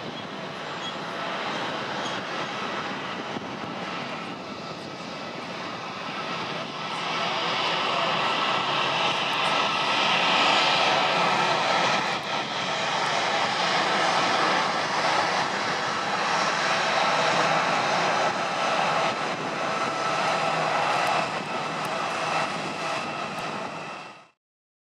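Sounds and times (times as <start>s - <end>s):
jet engines rushing: 0.0s - 24.4s.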